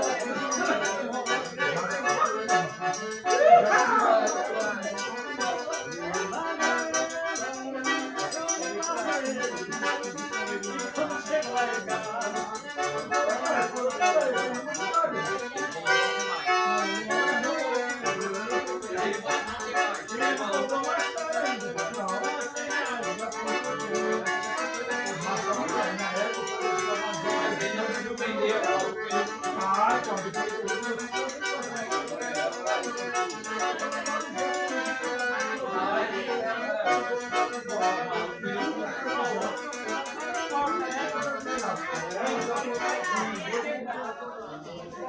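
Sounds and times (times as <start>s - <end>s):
accordion-led dance music: 0.0s - 43.9s.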